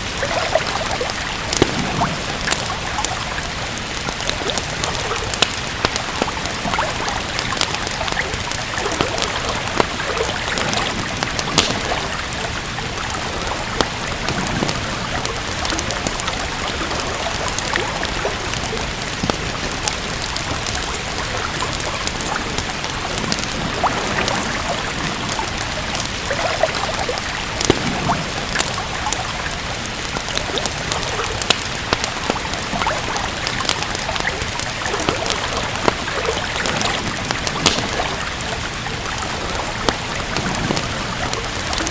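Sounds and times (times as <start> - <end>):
steady rain: 0.0 - 41.9
wood fire crackling: 0.0 - 41.9.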